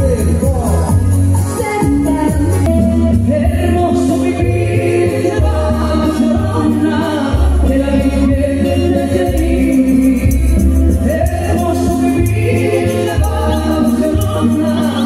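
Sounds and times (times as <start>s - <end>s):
bass line: 0.0s - 15.0s
electric guitar: 0.0s - 15.0s
keyboards: 0.0s - 15.0s
women singing in harmony: 1.5s - 10.3s, 11.3s - 15.0s.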